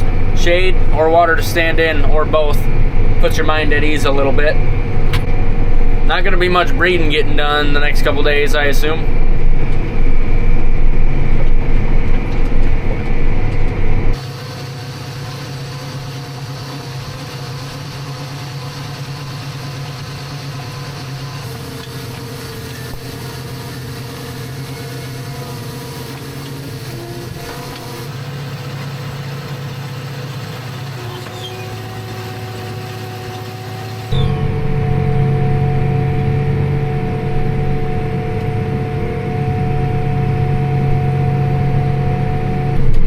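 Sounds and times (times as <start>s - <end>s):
drone with shifting tones: 0.0s - 43.0s
vehicle engine running: 0.0s - 43.0s.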